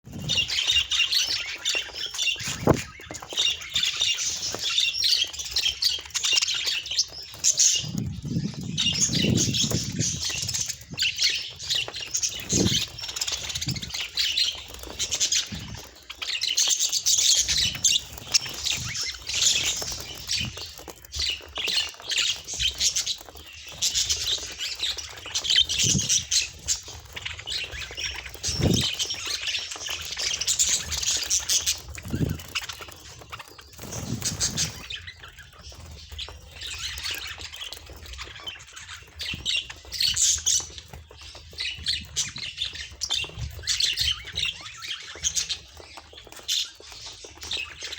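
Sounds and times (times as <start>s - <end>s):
budgerigars chattering and chirping: 0.2s - 47.9s.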